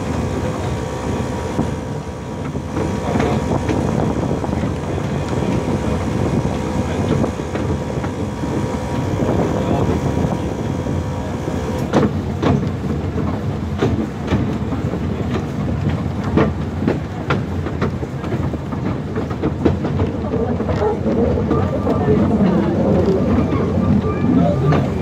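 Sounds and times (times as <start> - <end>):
train low rumble: 0.0 - 25.0
wheels clicking over rail joints: 0.0 - 25.0.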